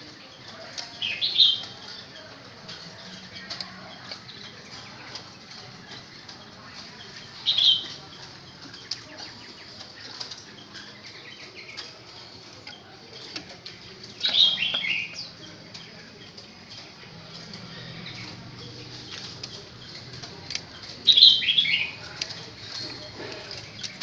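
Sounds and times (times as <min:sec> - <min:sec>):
soft bird chirps: 0:00.1 - 0:24.0.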